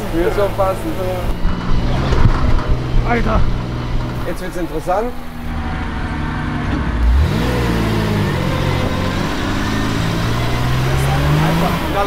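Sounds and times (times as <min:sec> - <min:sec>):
diesel engine pulling hard: 0:00.0 - 0:12.0.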